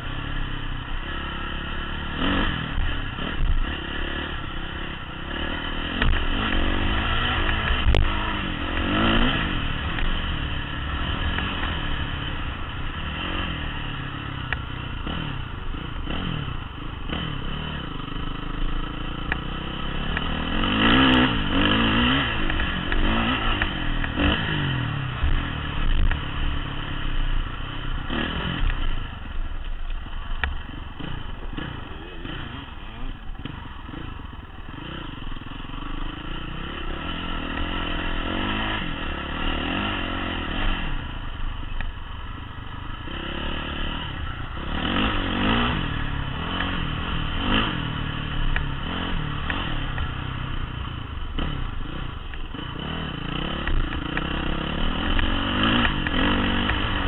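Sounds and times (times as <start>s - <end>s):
dirt bike engine revving: 0.0s - 29.3s, 30.4s - 57.0s.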